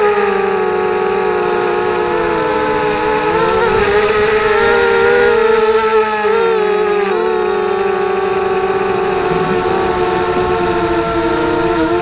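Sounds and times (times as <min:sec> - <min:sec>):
quadcopter motors whining: 0:00.0 - 0:12.0
wind hiss: 0:00.0 - 0:12.0.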